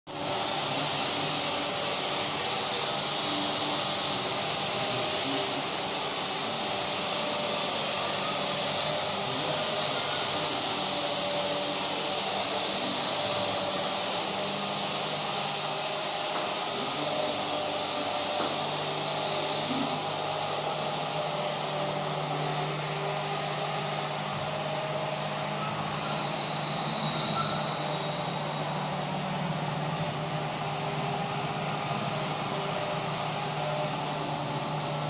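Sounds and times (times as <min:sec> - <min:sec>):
steady hiss: 0:00.1 - 0:35.0.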